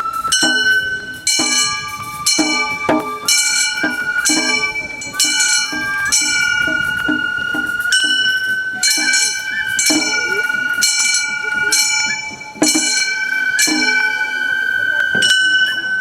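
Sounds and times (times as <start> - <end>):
high transverse flute: 0.0 - 16.0
small hand gongs ringing: 0.0 - 16.0.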